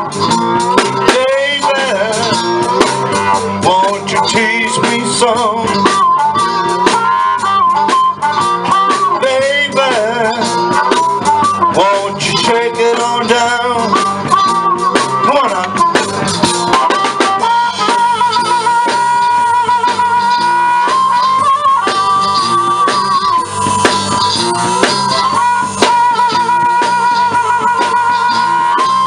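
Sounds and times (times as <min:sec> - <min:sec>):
drums keeping steady beat: 0:00.0 - 0:29.0
guitar: 0:00.0 - 0:29.0
harmonica bending notes: 0:00.0 - 0:29.0.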